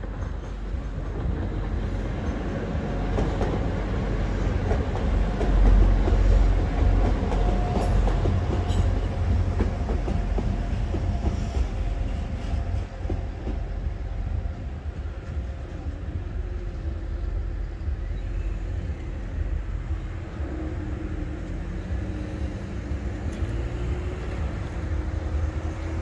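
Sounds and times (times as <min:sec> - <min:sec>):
train engine and wheel rumble: 0:00.0 - 0:26.0.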